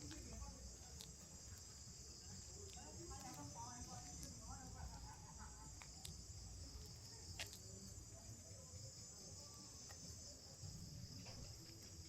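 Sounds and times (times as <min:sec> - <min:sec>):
crickets and insects chorus: 0:00.0 - 0:12.0.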